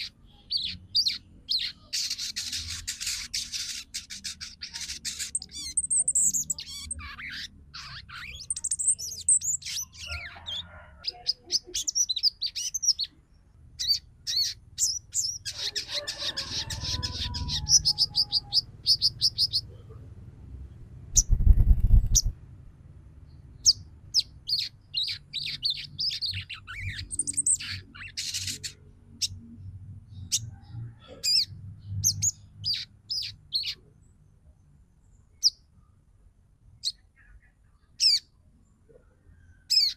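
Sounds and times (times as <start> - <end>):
bird chirping and twittering: 0.0 - 20.0, 20.6 - 22.4, 23.3 - 34.1, 35.1 - 35.7, 36.8 - 38.3, 39.6 - 39.9.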